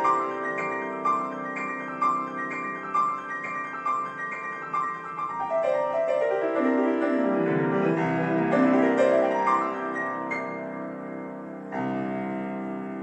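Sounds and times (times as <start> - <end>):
solo piano playing: 0.0 - 13.0.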